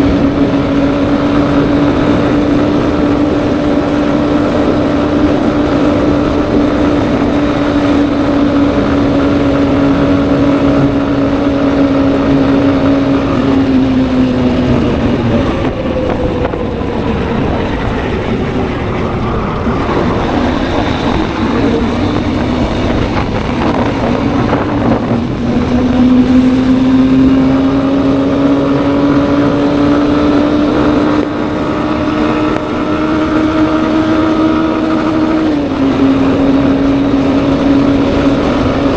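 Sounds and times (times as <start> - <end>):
motorcycle engine running: 0.0 - 38.9
wind rushing past microphone: 0.0 - 38.9.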